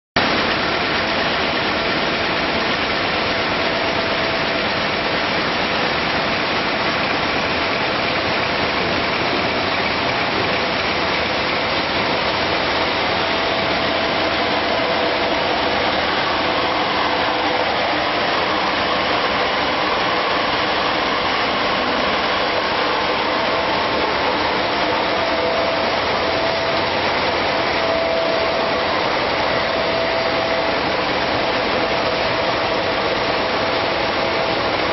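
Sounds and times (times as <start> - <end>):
dense machine noise: 0.2 - 34.9
faint steady whine: 0.2 - 34.9.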